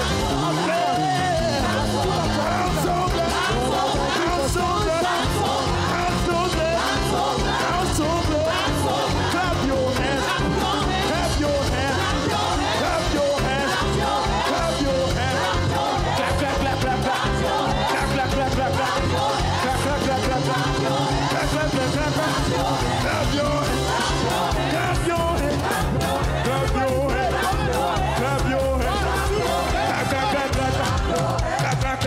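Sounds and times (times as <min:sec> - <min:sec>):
drum kit: 0:00.0 - 0:32.0
keyboard: 0:00.0 - 0:32.0
voices singing: 0:00.0 - 0:32.0.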